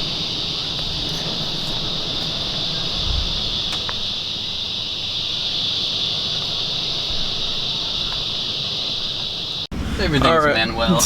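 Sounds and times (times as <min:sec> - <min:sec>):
insect chorus buzzing trill: 0:00.0 - 0:09.7.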